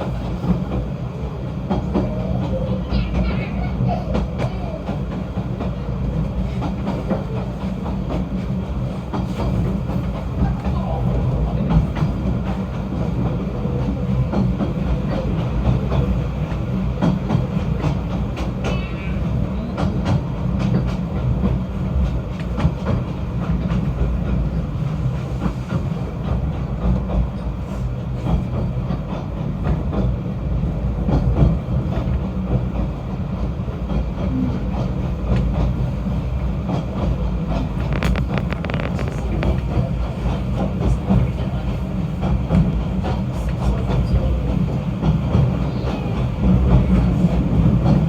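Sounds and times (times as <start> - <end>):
train clatter: 0.0 - 48.0
train rumbling with clicks and knocks: 0.0 - 48.0.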